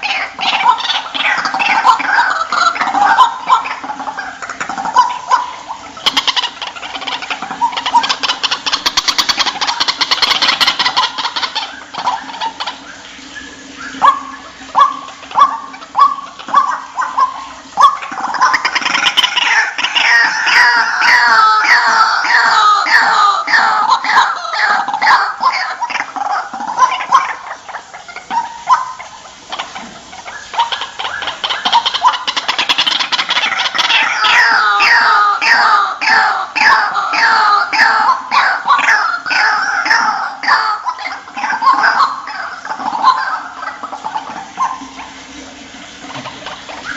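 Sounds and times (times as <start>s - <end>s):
waterhen calling: 0.0s - 46.9s.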